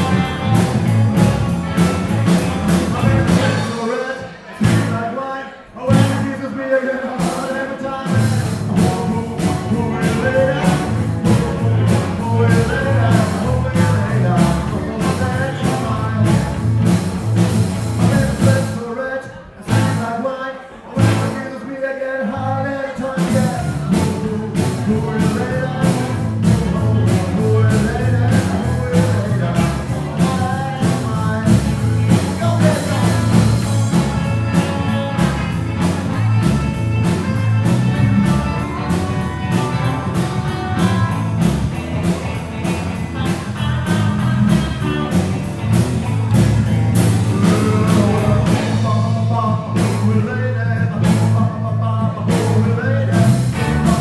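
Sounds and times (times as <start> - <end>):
drum kit beat: 0.0 - 5.1, 5.9 - 6.4, 7.2 - 18.8, 19.7 - 20.2, 21.0 - 21.4, 23.2 - 54.0
heavy bass line: 0.0 - 5.1, 5.9 - 6.4, 7.9 - 18.8, 19.7 - 20.1, 20.9 - 21.6, 22.4 - 54.0
guitars: 0.0 - 54.0.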